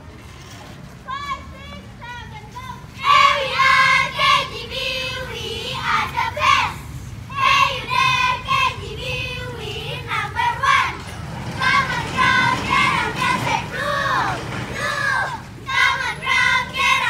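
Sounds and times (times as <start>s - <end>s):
children chanting a cheer: 1.1s - 17.0s.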